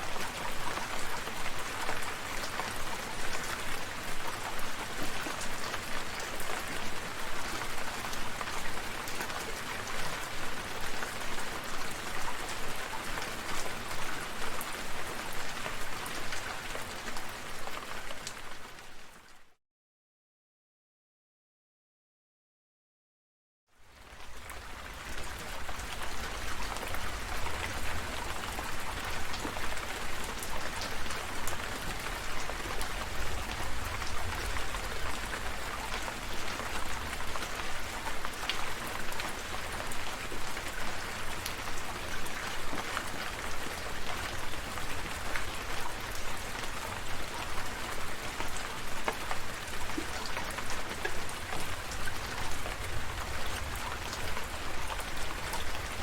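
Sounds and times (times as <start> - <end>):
rain falling: 0.0 - 19.4, 23.8 - 56.0.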